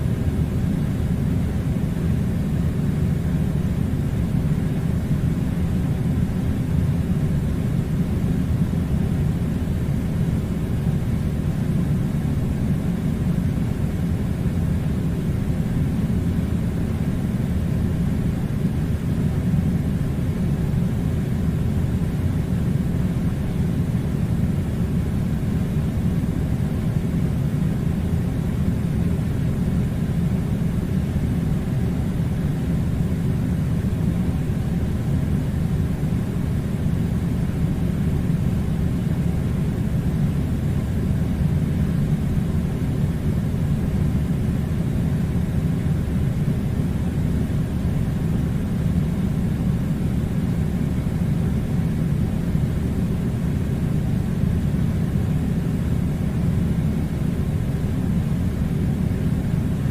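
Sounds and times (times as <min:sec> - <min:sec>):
air conditioner humming: 0:00.0 - 0:59.9.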